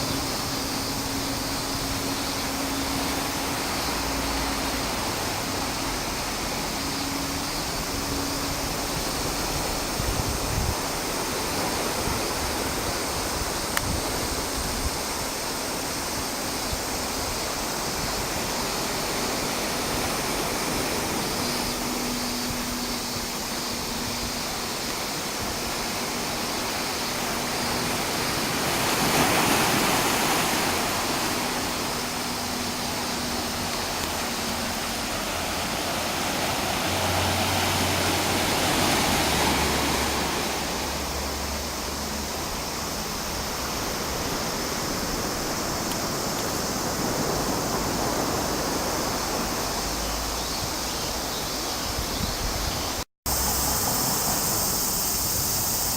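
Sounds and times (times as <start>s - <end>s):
surf breaking on a beach: 0.0s - 55.9s.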